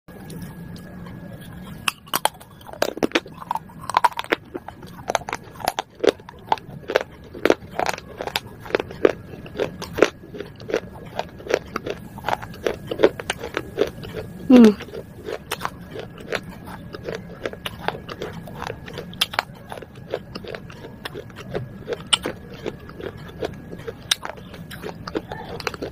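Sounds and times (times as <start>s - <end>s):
chewing brittle clay crunches: 0.1s - 25.9s.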